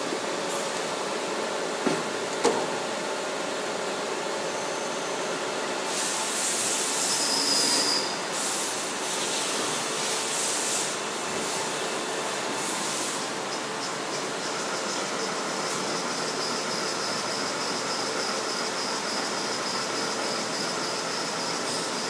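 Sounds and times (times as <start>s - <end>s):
factory machines running: 0.0s - 22.0s.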